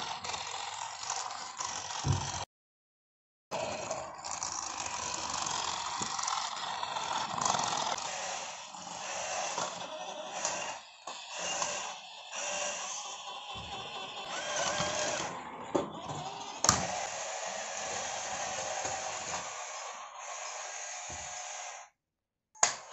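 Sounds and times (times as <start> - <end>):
toy car motor whirring: 0.0 - 2.4, 3.6 - 22.0.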